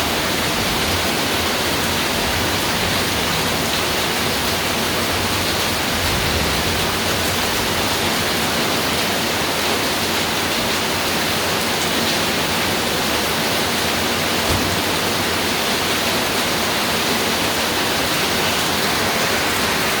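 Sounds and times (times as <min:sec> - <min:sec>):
rain falling on a roof: 0:00.0 - 0:20.0.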